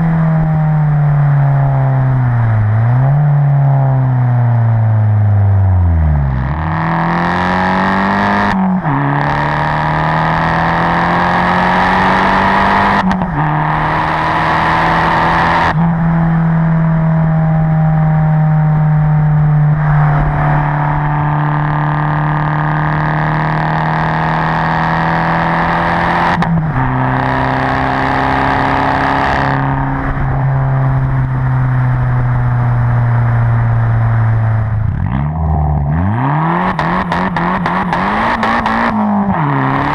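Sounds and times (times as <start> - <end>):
car engine while driving: 0.0 - 39.9
engine upshifts: 0.0 - 39.9.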